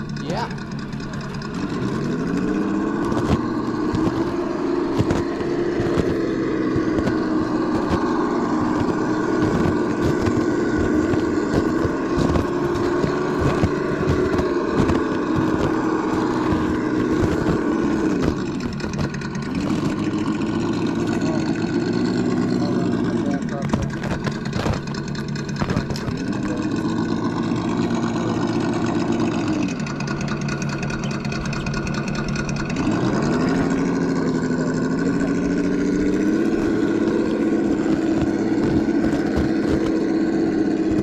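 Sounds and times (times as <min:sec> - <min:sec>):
simulated engine sound from speaker: 0:00.0 - 0:41.0.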